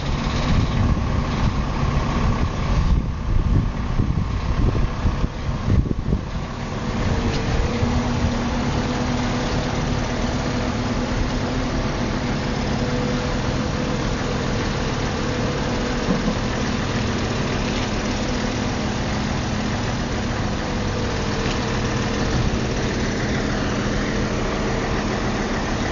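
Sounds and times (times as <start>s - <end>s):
forklift running: 0.0s - 25.9s.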